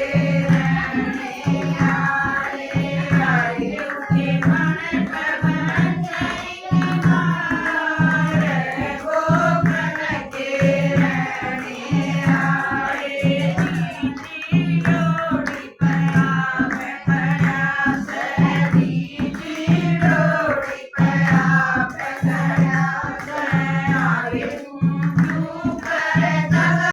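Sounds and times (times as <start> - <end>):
voices singing a devotional song: 0.0 - 26.9.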